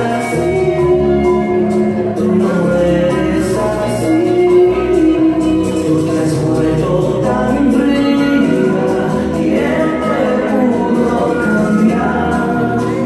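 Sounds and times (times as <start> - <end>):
latin song with singing: 0.0 - 13.0.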